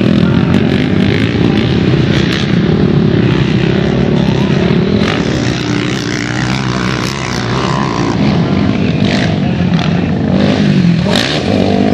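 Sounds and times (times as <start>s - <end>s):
quad engines revving: 0.0s - 11.9s.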